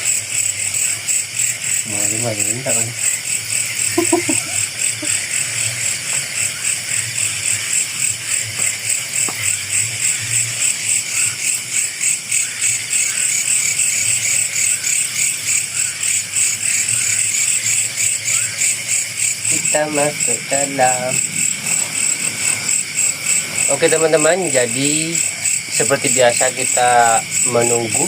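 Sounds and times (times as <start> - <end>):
crickets and insects trilling: 0.0 - 28.0.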